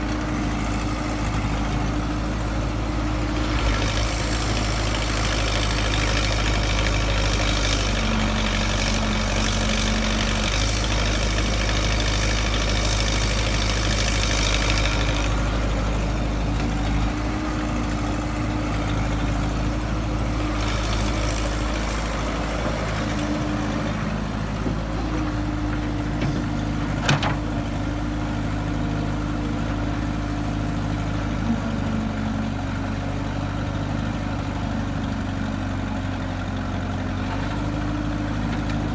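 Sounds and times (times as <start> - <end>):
excavator engine drone: 0.0 - 38.9.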